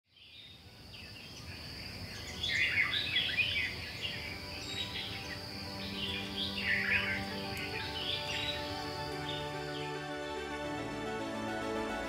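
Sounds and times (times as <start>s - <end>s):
birds chirping: 0.1s - 10.9s
high insect-like whine: 0.4s - 10.6s.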